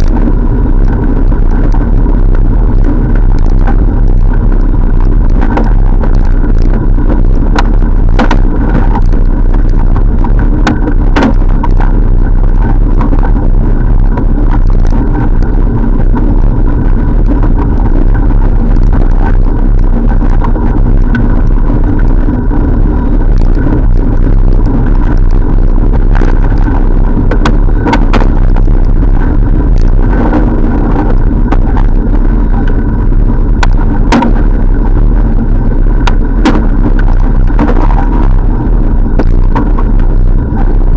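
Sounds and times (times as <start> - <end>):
road noise from bike: 0.0 - 40.9
sharp clicks and rattles: 0.0 - 40.9
steady hum: 0.0 - 40.9
wind rumble: 0.0 - 40.9.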